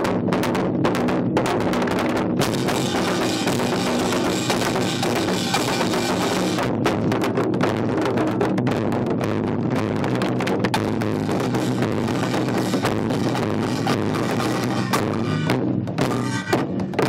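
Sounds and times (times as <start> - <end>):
barrel drums beaten fast: 0.0 - 17.0.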